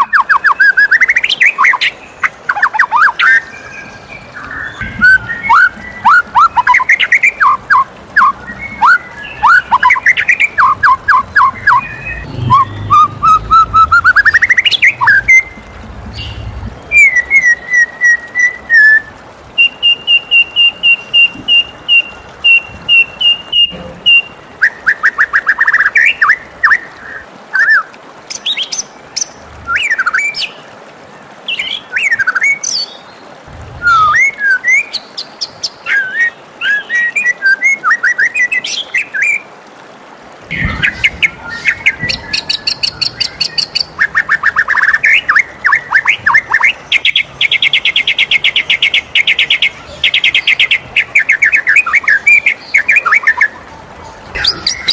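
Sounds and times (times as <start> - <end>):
songbird singing whistles and trills: 0.0 - 30.6, 31.5 - 39.5, 40.5 - 54.9.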